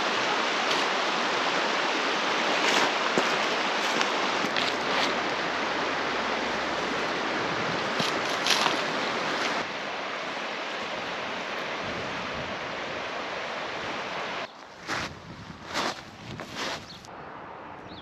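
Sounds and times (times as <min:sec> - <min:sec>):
sea waves washing on shore: 0:00.0 - 0:14.5.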